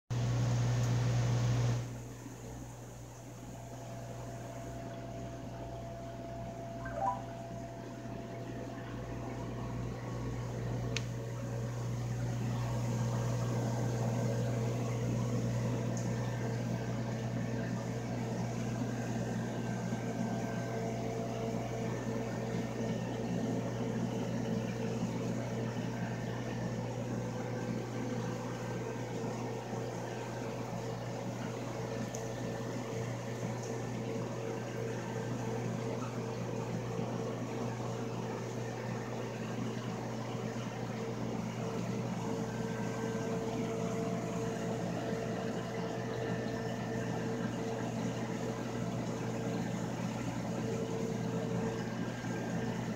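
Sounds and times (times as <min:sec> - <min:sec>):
aquarium pumps humming: 0:00.1 - 0:52.9
circulating water: 0:00.2 - 0:52.9.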